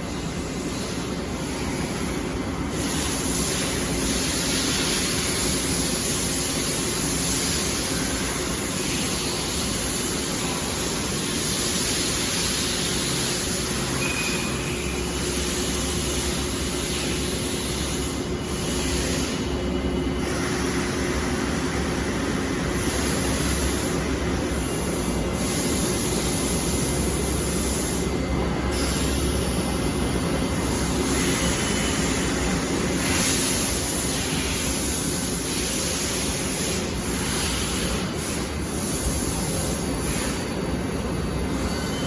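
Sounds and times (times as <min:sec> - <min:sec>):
machinery hiss: 0:00.0 - 0:42.0.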